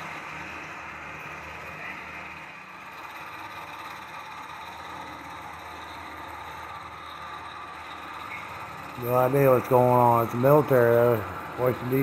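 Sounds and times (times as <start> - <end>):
helicopter engine and rotor noise: 0.0 - 12.0.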